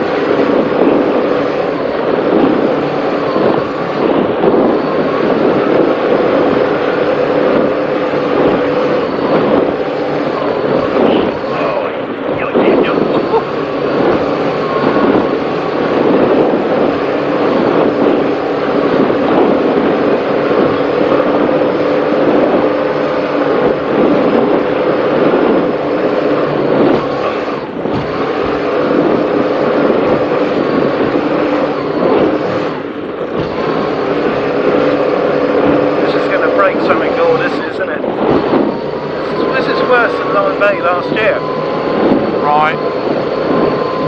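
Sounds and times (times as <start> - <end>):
powerboat engines droning: 0.0 - 44.0
wind and water rush: 0.0 - 44.0.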